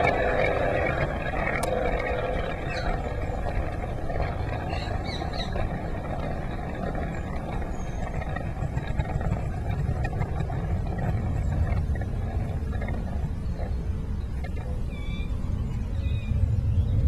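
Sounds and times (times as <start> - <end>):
model train running on track: 0.0 - 15.9.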